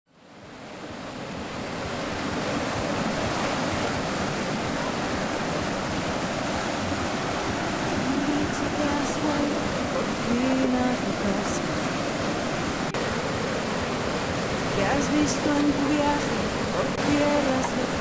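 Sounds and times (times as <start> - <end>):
whitewater rushing: 0.1 - 18.0.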